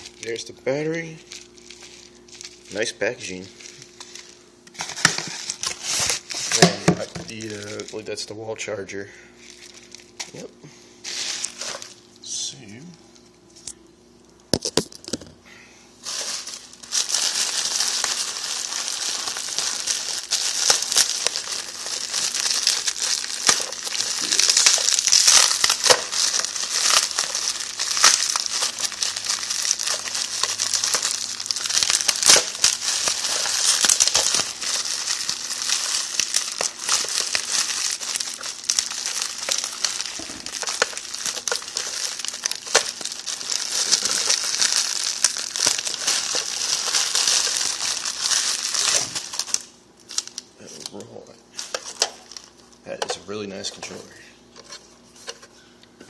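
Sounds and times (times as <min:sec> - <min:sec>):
plastic packaging crinkling: 0:00.0 - 0:08.2, 0:09.4 - 0:12.2, 0:16.0 - 0:55.5.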